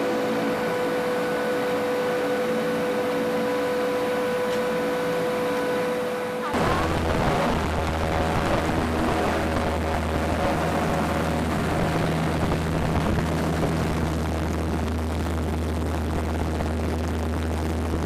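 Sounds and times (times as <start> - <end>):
propeller aircraft engines droning: 0.0 - 18.0.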